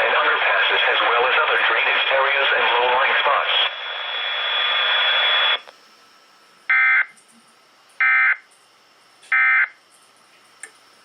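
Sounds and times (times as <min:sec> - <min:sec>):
broadcast hiss: 0:00.0 - 0:11.0.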